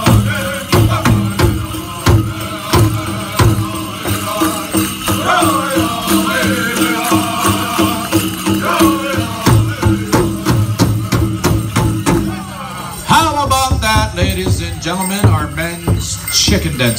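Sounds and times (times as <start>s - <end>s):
hard drum beat: 0.0s - 12.5s, 13.1s - 16.9s
drum group singing: 0.0s - 16.6s.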